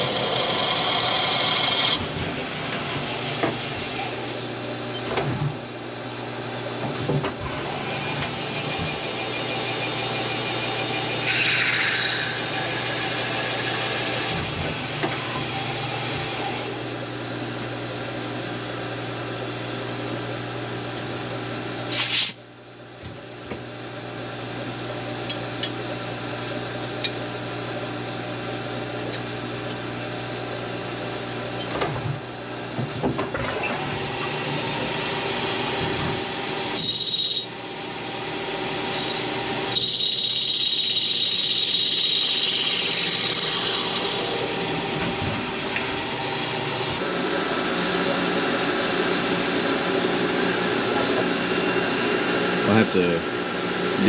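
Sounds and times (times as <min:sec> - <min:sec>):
machine spindle hum with cutting: 0:00.0 - 0:21.9, 0:22.7 - 0:54.0.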